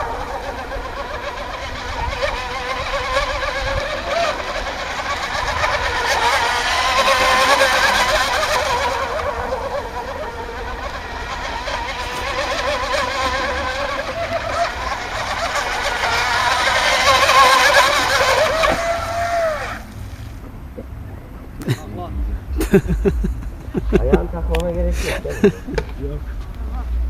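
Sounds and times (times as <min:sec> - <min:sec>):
rc boat engine running: 0:00.0 - 0:27.0.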